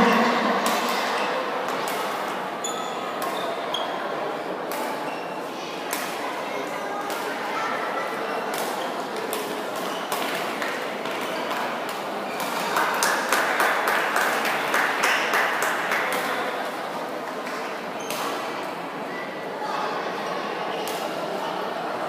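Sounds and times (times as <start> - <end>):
murmur of crowd voices: 0.0 - 22.0.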